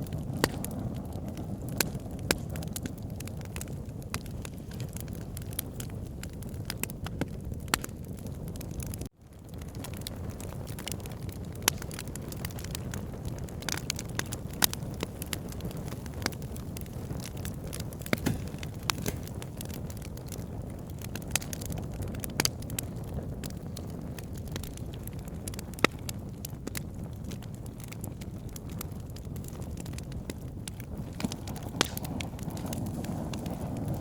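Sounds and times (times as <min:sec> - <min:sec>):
burning wood crackling and popping: 0:00.0 - 0:34.0
flames rumbling: 0:00.0 - 0:34.0.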